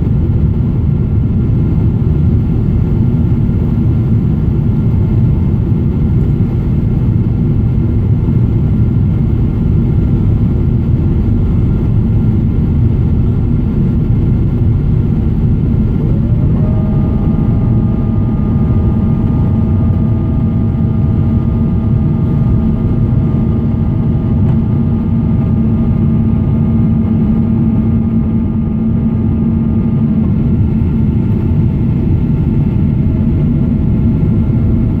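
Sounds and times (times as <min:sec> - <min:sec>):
loud roar of jet engines: 0:00.0 - 0:35.0
whine with overtones: 0:00.0 - 0:35.0.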